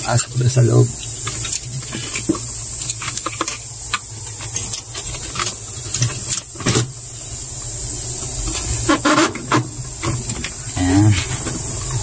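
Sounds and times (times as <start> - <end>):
steady hum and hiss: 0.0 - 12.0.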